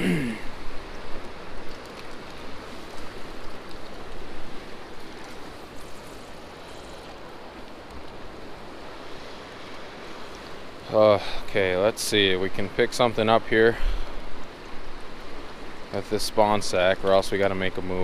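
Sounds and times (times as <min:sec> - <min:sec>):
river water rushing: 0:00.0 - 0:17.2.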